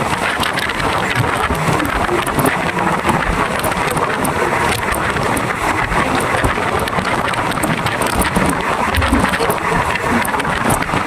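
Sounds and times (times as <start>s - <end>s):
moving train running noise: 0.0s - 11.0s
faint clicks: 0.4s - 11.0s.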